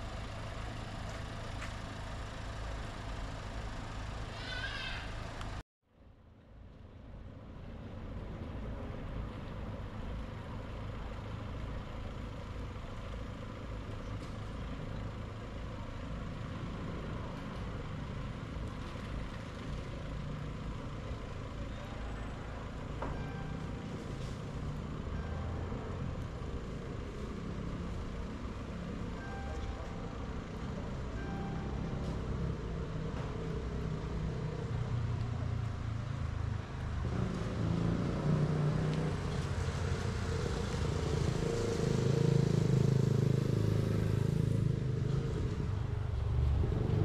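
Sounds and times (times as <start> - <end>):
city traffic rumble: 0.0 - 47.0.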